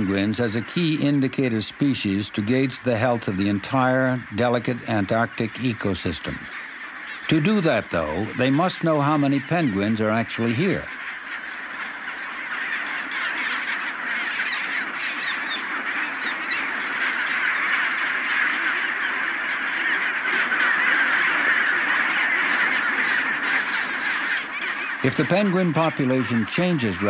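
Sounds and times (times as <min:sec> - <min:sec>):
penguins braying and squawking: 0:00.0 - 0:27.0.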